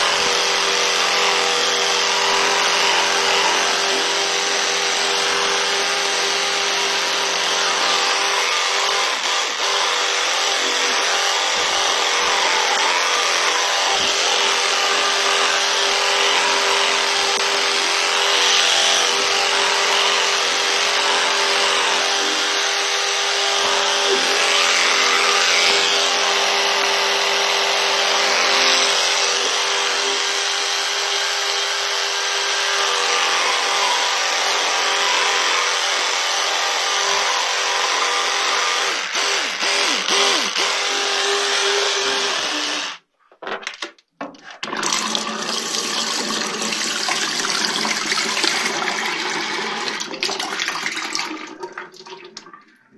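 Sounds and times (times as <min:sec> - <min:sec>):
electric toothbrush buzzing: 0:00.0 - 0:43.0.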